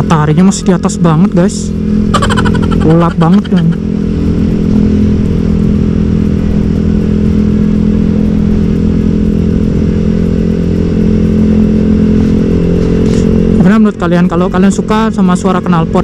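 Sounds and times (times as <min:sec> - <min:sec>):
motorcycle cruising: 0:00.0 - 0:16.0.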